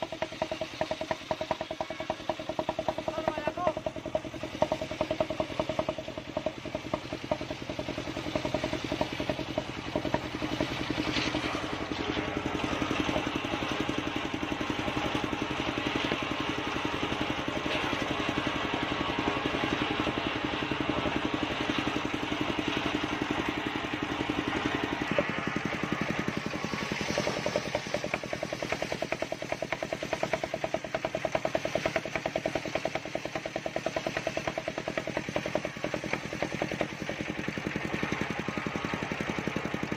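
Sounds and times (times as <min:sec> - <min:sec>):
circular saw cutting log: 0:00.0 - 0:39.9
sawmill engine running: 0:00.0 - 0:39.9.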